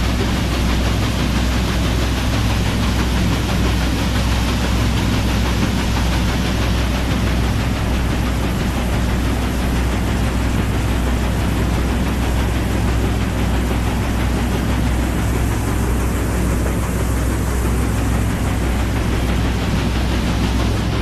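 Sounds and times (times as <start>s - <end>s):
boat engines droning: 0.0s - 21.0s.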